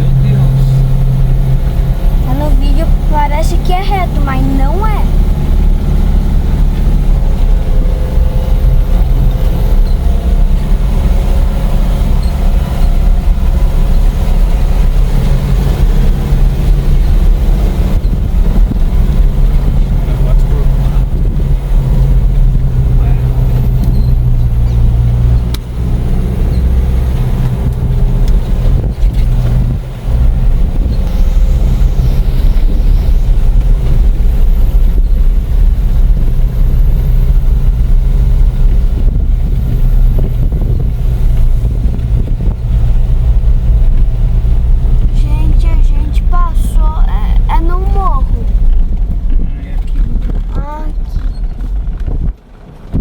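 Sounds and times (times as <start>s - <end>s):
engine droning under load: 0.0s - 53.0s.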